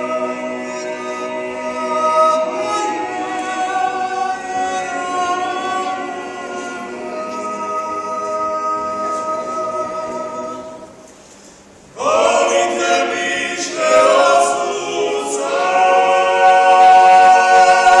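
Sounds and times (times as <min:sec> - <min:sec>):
male a cappella group singing: 0:00.0 - 0:11.0, 0:12.0 - 0:18.0.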